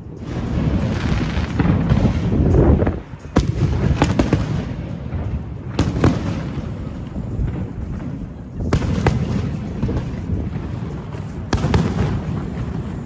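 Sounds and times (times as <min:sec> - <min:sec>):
fireworks rumble: 0:00.0 - 0:13.0
fireworks sharp bangs: 0:00.0 - 0:13.0.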